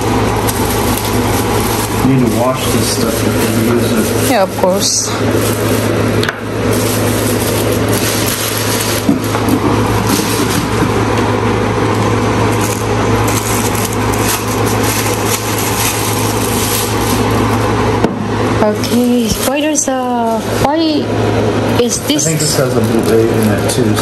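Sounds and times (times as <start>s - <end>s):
packaging crinkling and rustling: 0.0s - 11.2s, 12.0s - 17.8s, 18.8s - 20.6s, 22.4s - 24.0s.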